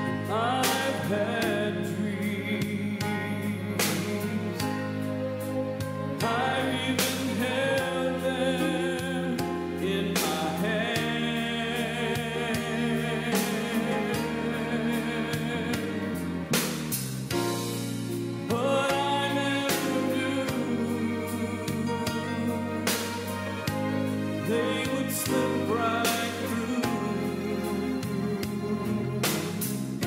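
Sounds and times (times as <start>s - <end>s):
man singing gospel song: 0.0s - 5.1s, 6.2s - 16.5s, 18.4s - 29.2s
instrumental accompaniment: 0.0s - 30.0s.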